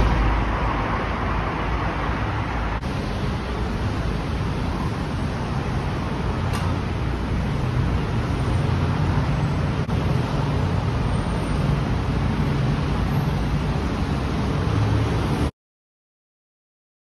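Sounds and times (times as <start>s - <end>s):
car and motorcycle engines humming: 0.0s - 15.5s
road noise: 0.0s - 15.5s.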